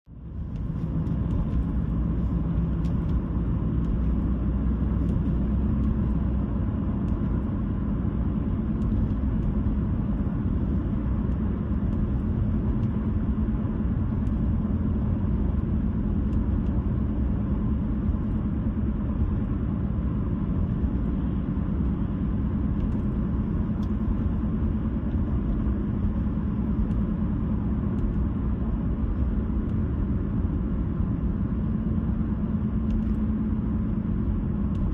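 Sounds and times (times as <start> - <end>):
car road rumble: 0.0 - 34.9.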